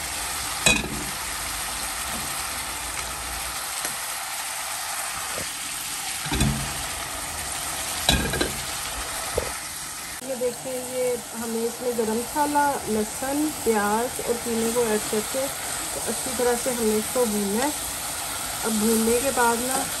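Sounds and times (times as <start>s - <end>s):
onions and meat sizzling in oil: 0.0s - 20.0s.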